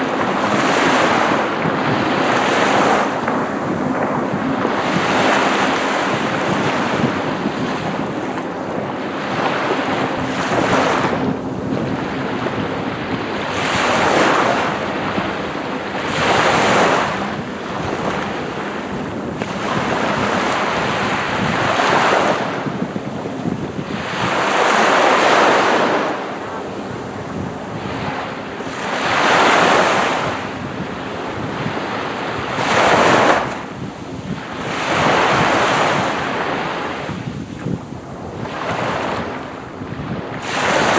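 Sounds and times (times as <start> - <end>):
sea waves breaking on beach: 0.0 - 40.9.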